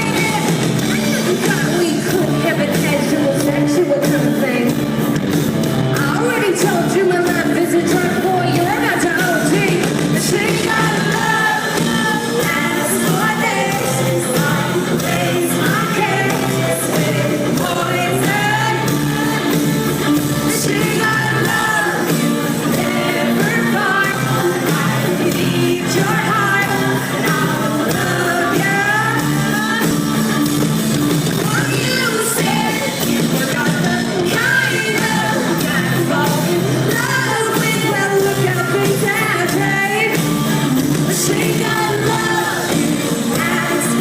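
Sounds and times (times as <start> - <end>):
woman singing: 0.0 - 4.8, 6.0 - 30.4, 31.3 - 44.0
live rock band playing: 0.0 - 44.0.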